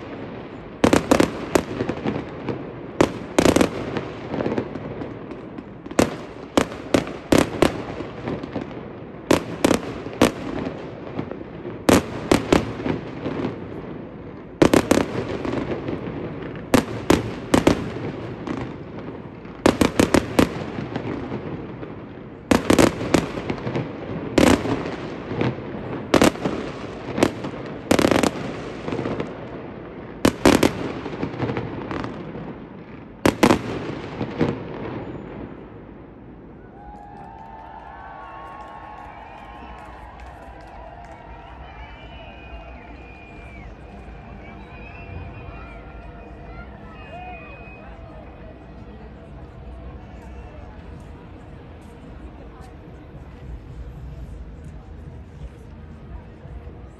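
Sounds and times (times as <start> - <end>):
fireworks bangs: 0.0 - 56.6.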